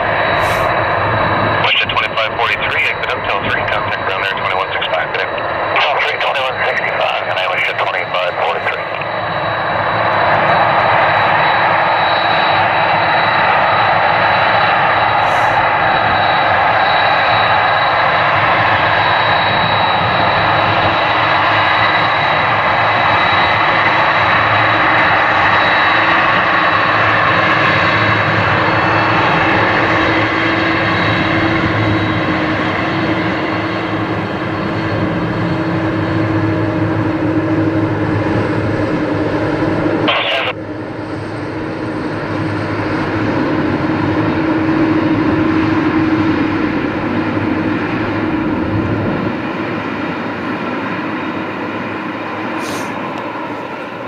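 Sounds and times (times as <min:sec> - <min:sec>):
jet engines with fan whine: 0:00.0 - 0:54.0.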